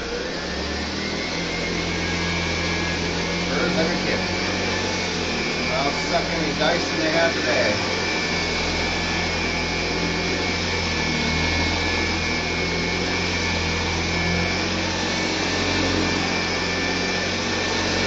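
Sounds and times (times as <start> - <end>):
upright vacuum cleaner running: 0.0 - 18.0.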